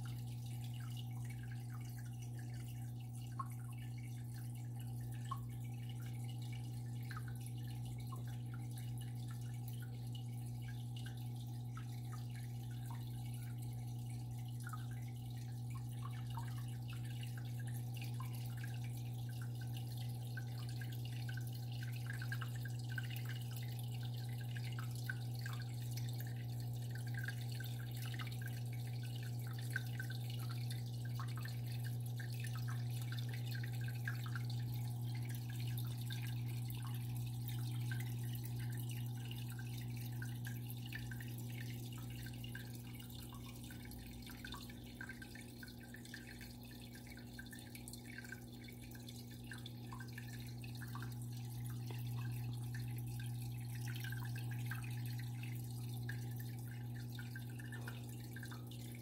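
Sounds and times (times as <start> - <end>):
aquarium water trickling: 0.0 - 59.0
continuous low hum: 0.0 - 59.0.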